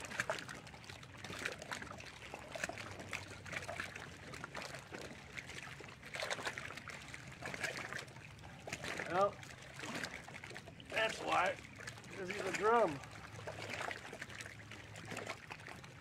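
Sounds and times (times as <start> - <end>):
water lapping around a boat: 0.0 - 16.0.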